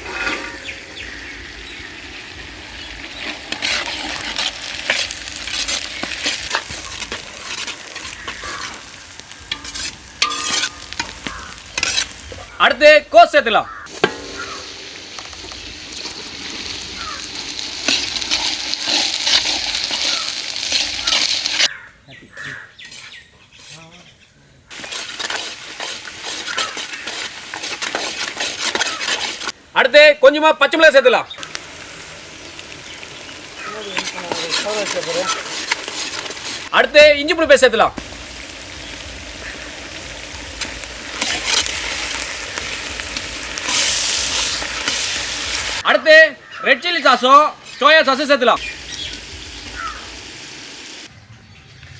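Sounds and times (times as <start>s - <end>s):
vegetables sizzling in oil: 0.0s - 12.7s, 13.7s - 21.7s, 24.7s - 45.9s, 47.6s - 51.1s.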